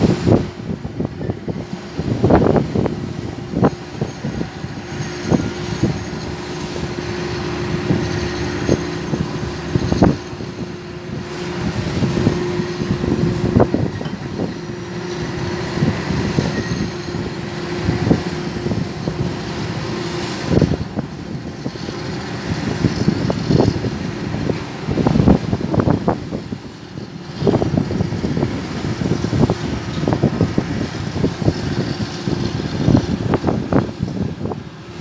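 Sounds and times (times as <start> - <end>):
crane machinery humming: 0.0 - 35.0.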